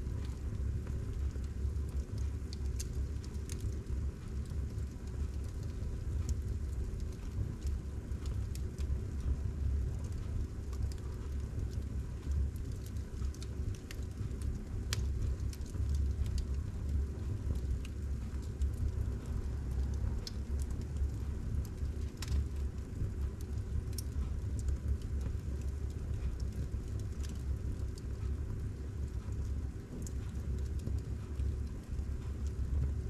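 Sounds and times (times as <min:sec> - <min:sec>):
fire crackles: 0:00.0 - 0:33.0
fireplace flames rumbling: 0:00.0 - 0:33.0.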